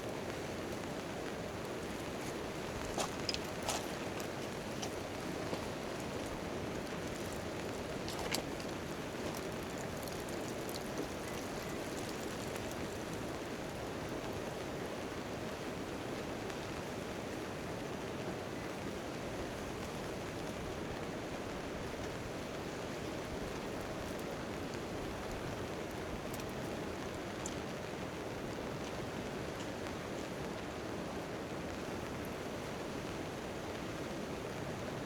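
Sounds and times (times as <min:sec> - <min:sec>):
rain on a tent tarp: 0:00.0 - 0:35.0.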